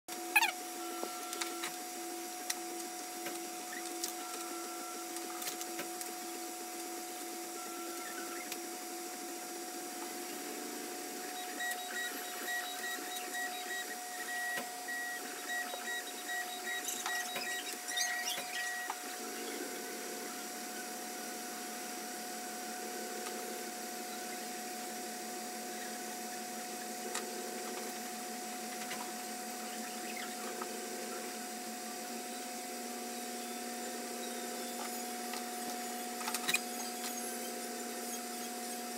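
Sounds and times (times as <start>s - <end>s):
stepper motors whining: 0.1s - 38.9s
pulsing high-pitched tone: 7.5s - 38.9s.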